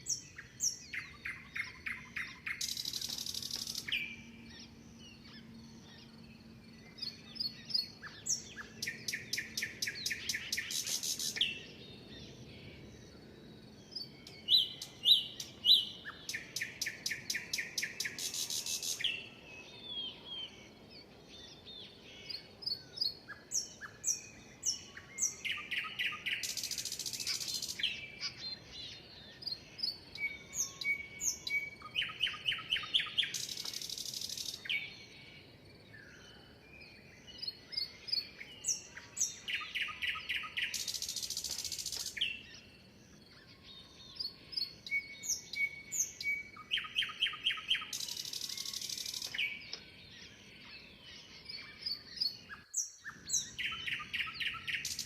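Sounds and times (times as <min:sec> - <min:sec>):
birds chirping and whistling: 0:00.0 - 0:20.8, 0:22.3 - 0:35.4, 0:36.0 - 0:55.0.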